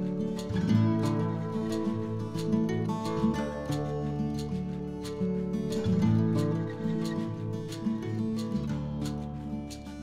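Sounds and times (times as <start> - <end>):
light steady beat: 0.0 - 10.0
strummed acoustic guitar: 0.0 - 10.0.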